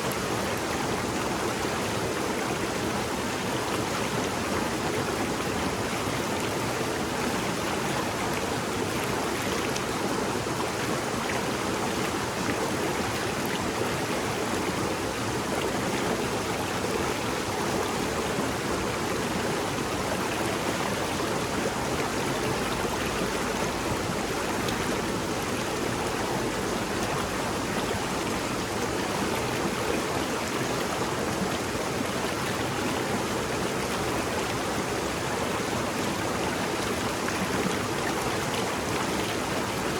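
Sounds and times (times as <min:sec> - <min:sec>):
river babbling: 0:00.0 - 0:39.9.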